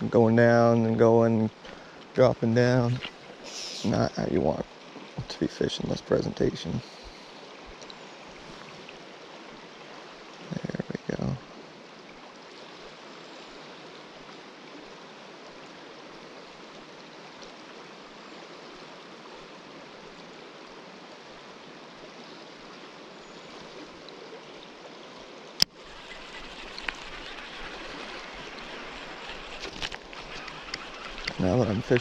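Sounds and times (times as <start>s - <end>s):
river rushing: 1.5s - 32.0s.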